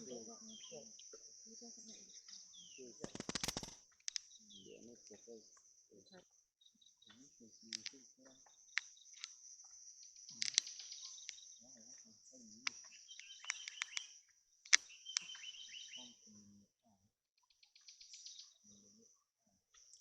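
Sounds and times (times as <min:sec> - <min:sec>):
high insect hum: 0:00.0 - 0:20.0
birds chirping and clicking: 0:01.7 - 0:16.6, 0:17.4 - 0:19.1, 0:19.7 - 0:20.0.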